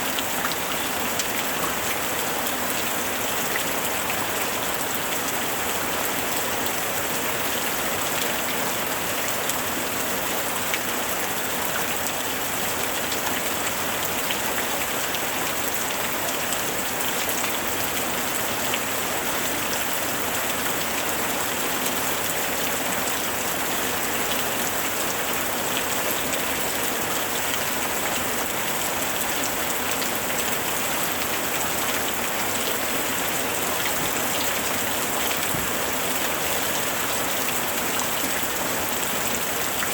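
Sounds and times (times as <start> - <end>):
heavy rain pattering: 0.1 - 39.9.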